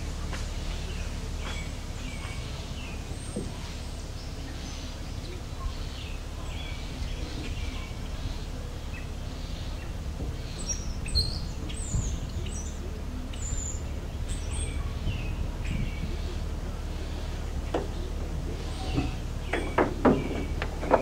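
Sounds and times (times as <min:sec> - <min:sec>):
songbirds chirping and singing: 0:00.0 - 0:21.0
steady low rumble: 0:00.0 - 0:21.0.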